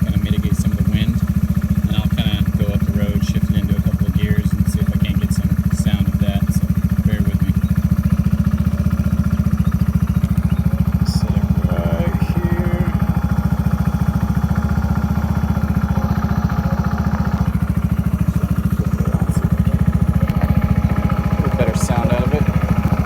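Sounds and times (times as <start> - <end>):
motorcycle engine idling steadily: 0.0 - 23.0.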